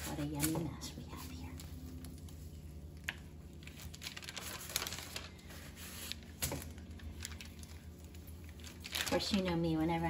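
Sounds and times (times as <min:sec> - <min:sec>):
paper crinkling and rustling: 0:00.0 - 0:10.0
steady low hum: 0:00.0 - 0:10.0.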